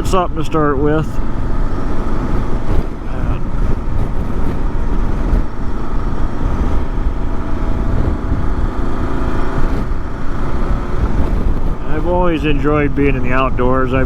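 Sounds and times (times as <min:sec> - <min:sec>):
motorcycle engine running: 0:00.0 - 0:14.0
wind and road noise: 0:00.0 - 0:14.0.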